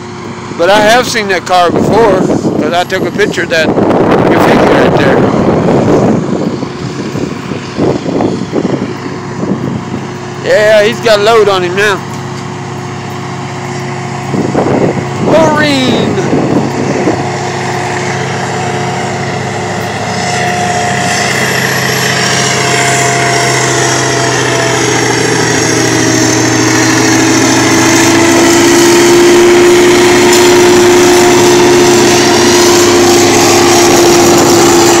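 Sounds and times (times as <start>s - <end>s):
diesel locomotive engine: 0.0s - 35.0s
freight train rolling past: 0.0s - 35.0s
steady whine: 0.0s - 35.0s.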